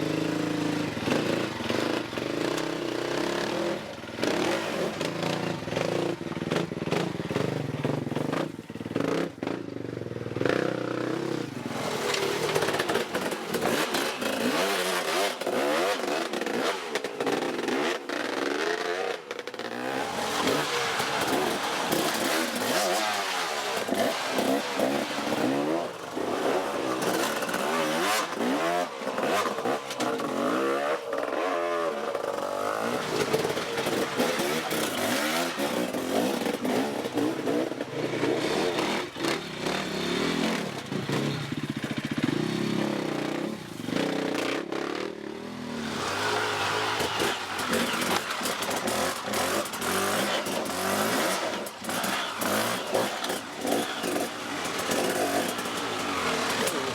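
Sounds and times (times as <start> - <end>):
dirt bike engines revving: 0.0 - 9.6, 10.3 - 56.9.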